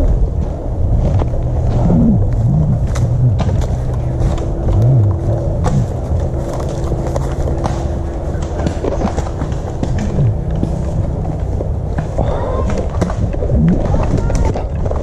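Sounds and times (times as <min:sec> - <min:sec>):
faint steady hum: 0:00.0 - 0:15.0
wind on microphone rumble: 0:00.0 - 0:15.0.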